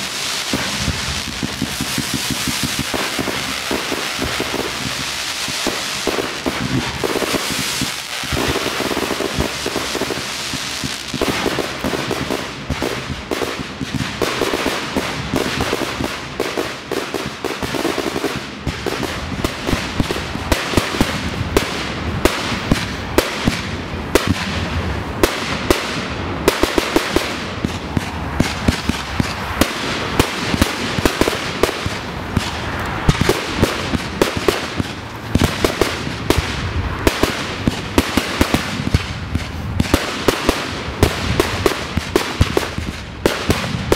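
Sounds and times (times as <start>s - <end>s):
fireworks crackling and banging: 0.0s - 43.9s.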